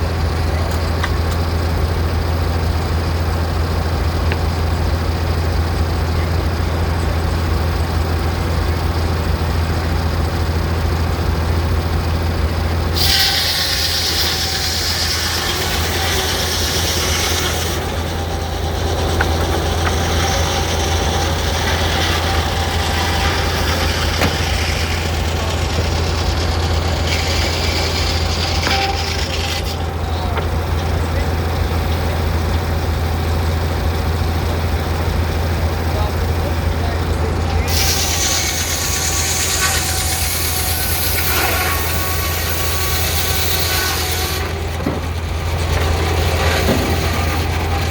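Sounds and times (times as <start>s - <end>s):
steam engine low drone: 0.0s - 47.9s
loud high-pitched noise: 9.5s - 47.9s.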